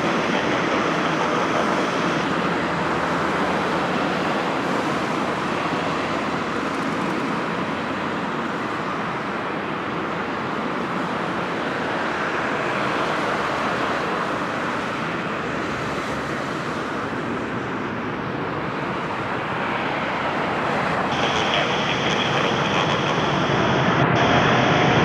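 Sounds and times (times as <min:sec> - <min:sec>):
high engine whine: 0:00.0 - 0:25.0
jet engines rushing: 0:00.0 - 0:25.0.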